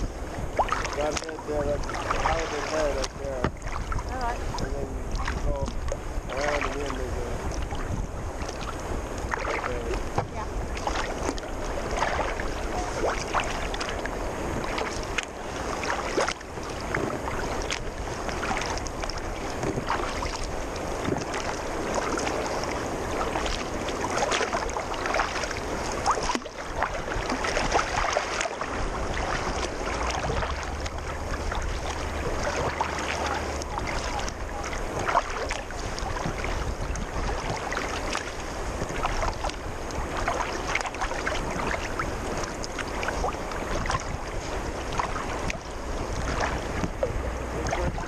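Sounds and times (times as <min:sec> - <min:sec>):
water splashing against kayak hull: 0:00.0 - 0:48.0
wind rumbling on microphone: 0:00.0 - 0:48.0.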